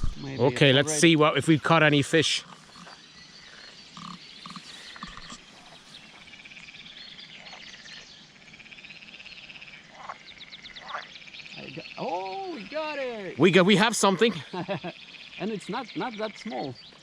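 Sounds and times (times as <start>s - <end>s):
frogs calling: 0.0s - 17.0s.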